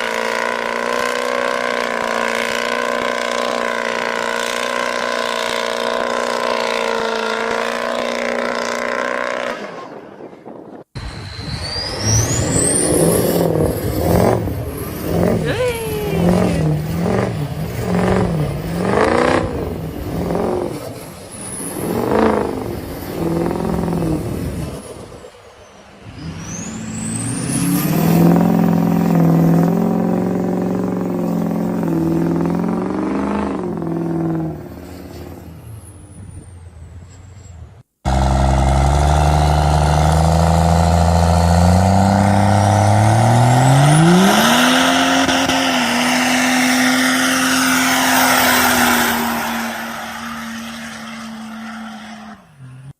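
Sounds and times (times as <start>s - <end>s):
truck engine revving: 0.0s - 10.1s, 11.0s - 25.3s, 26.0s - 35.7s, 38.1s - 52.9s
truck engine accelerating: 0.0s - 52.9s.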